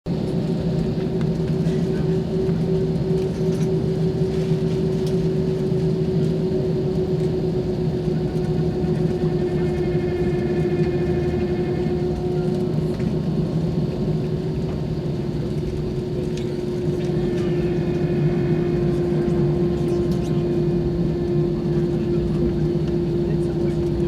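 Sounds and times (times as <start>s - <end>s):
jet engines running at low power: 0.1s - 24.0s.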